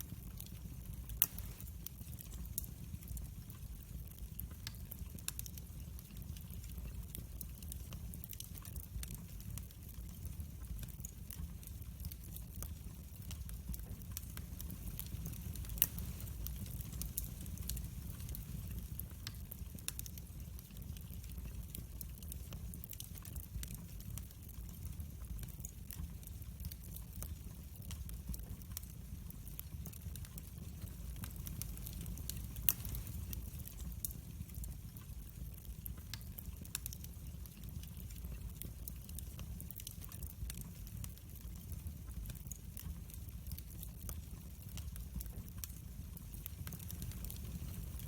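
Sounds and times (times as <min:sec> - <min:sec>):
low steady fire rumble: 0:00.0 - 0:48.0
wood fire crackling and popping: 0:00.0 - 0:48.0.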